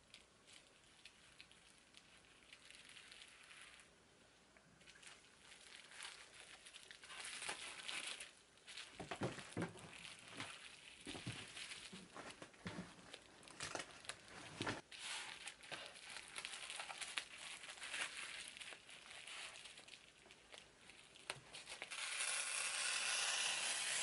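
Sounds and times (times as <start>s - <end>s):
bubble wrap crinkling: 0.0s - 24.0s.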